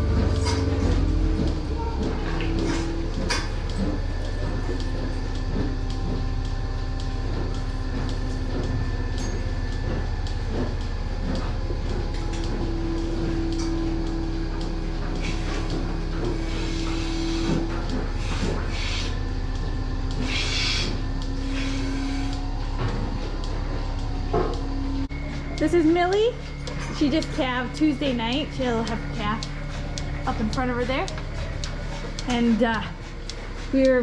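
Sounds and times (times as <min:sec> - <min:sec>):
humming tones: 0:00.0 - 0:34.0
milking equipment drone: 0:00.0 - 0:34.0.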